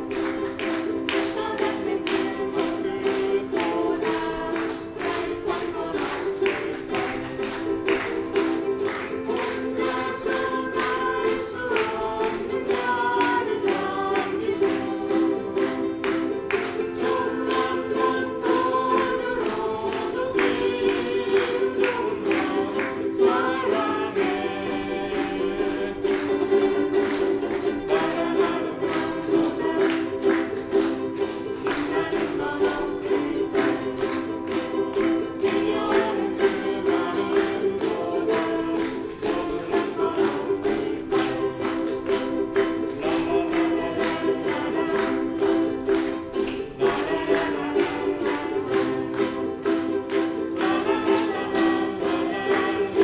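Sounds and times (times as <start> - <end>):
voices singing along: 0.0 - 53.0.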